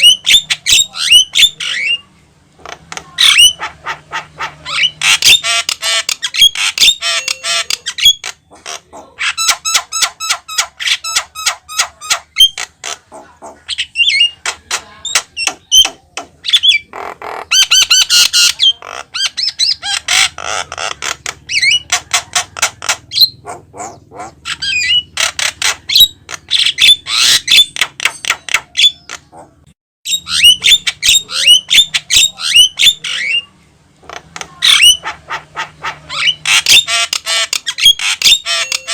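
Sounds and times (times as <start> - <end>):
bird singing harsh squawks: 0.0 - 29.4, 30.1 - 38.9.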